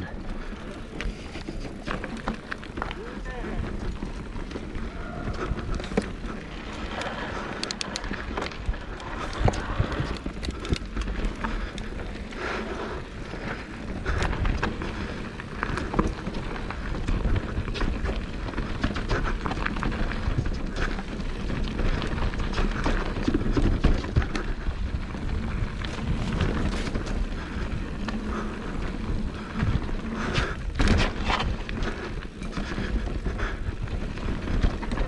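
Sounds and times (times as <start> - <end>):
bike rattling clicks and knocks: 0.0 - 35.0
bike tyres on dirt: 0.0 - 35.0
wind on microphone: 3.2 - 35.0.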